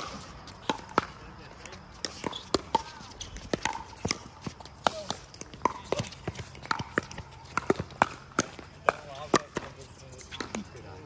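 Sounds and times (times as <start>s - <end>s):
ball bouncing on hard court: 0.0s - 11.0s.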